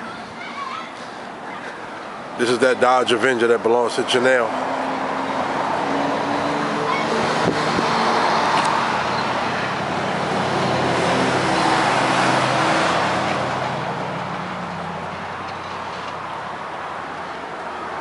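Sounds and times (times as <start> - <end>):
passing vehicles rushing: 0.0 - 18.0.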